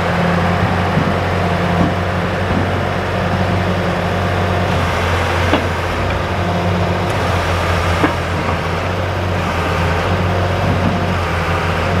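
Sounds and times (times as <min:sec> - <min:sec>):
diesel engine running: 0:00.0 - 0:12.0
hydraulic boom working: 0:00.0 - 0:12.0.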